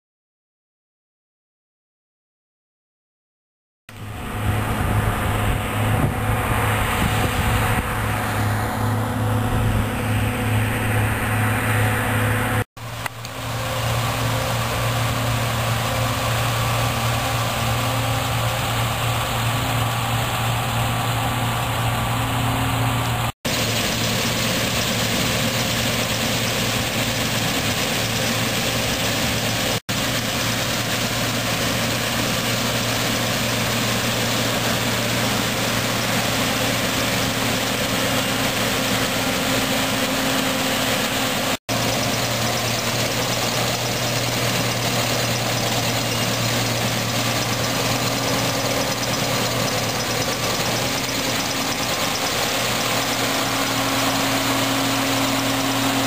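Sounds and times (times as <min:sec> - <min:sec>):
combine harvester engine drone: 0:03.9 - 0:56.0.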